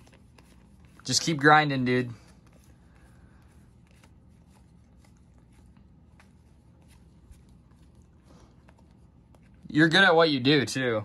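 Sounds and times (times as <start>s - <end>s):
cards and wrappers rustling: 0.0s - 10.9s
low room hum: 0.0s - 11.0s.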